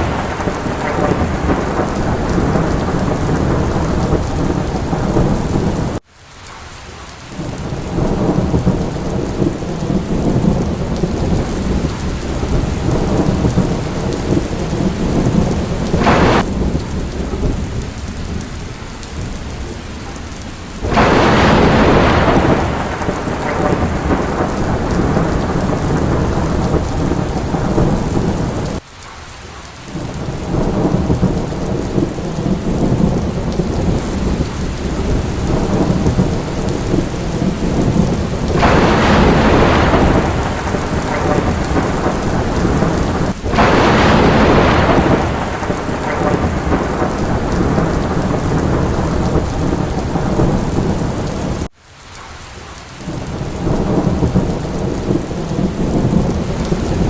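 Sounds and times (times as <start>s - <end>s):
thunder crashes: 0.0s - 6.0s, 7.8s - 18.4s, 20.8s - 28.8s, 30.4s - 51.7s
thunder rumbling: 0.0s - 6.0s, 7.4s - 28.8s, 29.9s - 51.7s, 53.0s - 57.0s
heavy rain: 0.0s - 57.0s.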